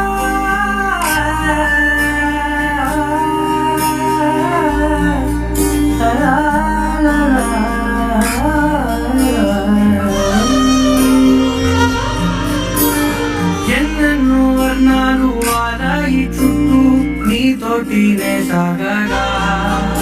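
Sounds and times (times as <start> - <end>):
gliding melody: 0.0 - 20.0
sustained bass notes: 0.0 - 20.0
wordless humming: 0.0 - 20.0.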